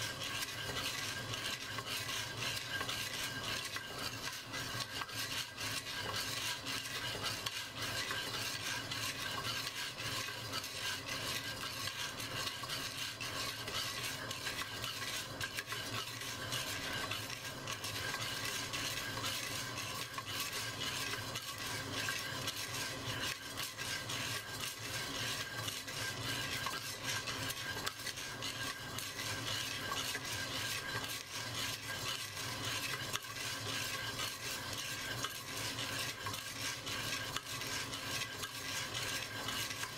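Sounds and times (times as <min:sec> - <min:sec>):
coffee beans rattling in pot: 0:00.0 - 0:39.9.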